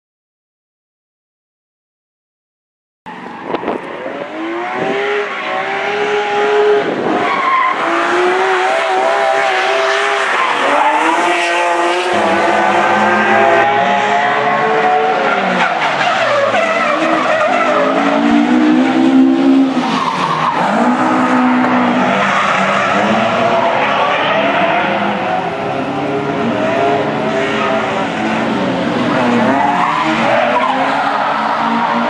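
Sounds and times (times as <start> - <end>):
car engine revving: 3.5 - 32.0.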